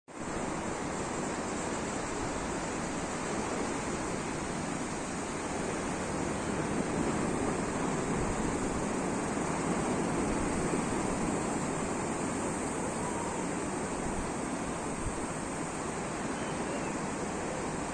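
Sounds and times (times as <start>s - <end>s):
sea waves washing: 0.2s - 17.9s.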